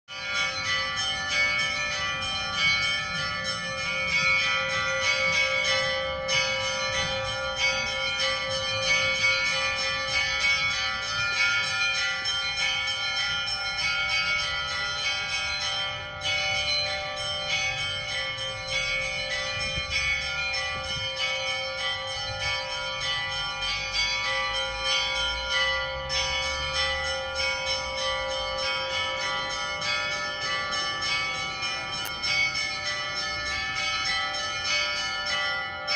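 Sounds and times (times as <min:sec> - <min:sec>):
deep bells humming: 0:00.1 - 0:35.9
small high bells ringing: 0:00.1 - 0:35.9.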